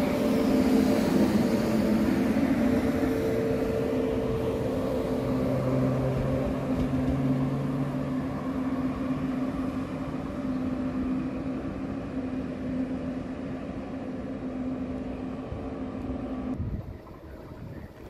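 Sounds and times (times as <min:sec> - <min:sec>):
train electric hum: 0:00.0 - 0:18.0
train rumble: 0:00.0 - 0:18.0.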